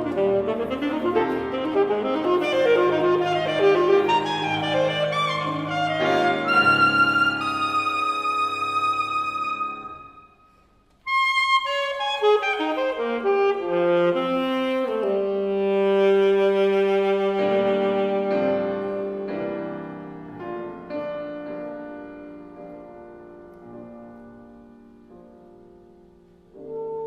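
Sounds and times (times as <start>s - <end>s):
alto saxophone: 0.0s - 22.8s, 26.5s - 27.0s
piano: 0.0s - 27.0s.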